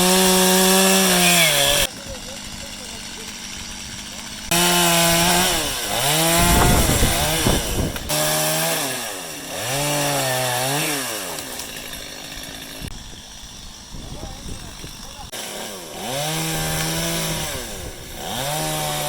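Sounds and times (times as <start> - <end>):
chainsaw running at high revs: 0.0 - 19.0.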